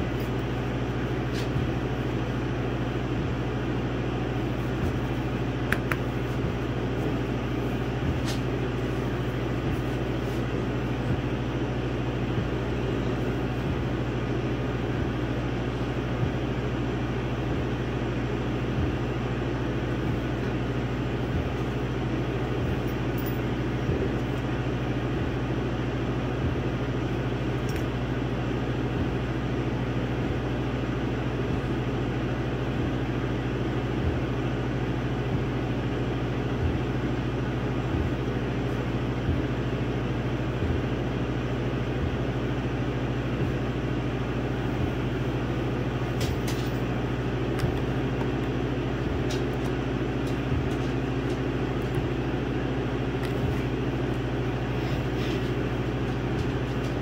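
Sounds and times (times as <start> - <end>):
laser engraver humming: 0.0 - 57.0.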